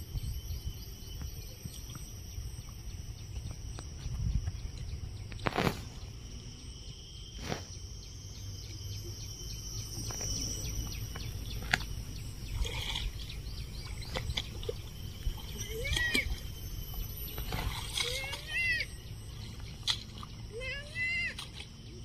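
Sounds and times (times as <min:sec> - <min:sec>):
faint high insect buzz: 0:00.0 - 0:22.0.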